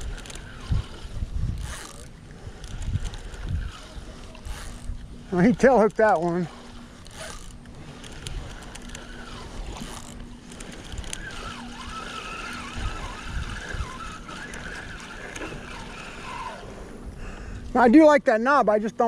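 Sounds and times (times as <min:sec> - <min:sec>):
spinning reel cranking: 0:00.0 - 0:16.8
wavering high whine: 0:00.0 - 0:18.1.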